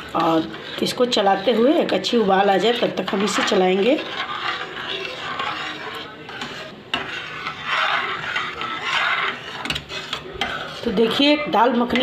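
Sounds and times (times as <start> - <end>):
spatula stirring thick stew: 0.0 - 12.0.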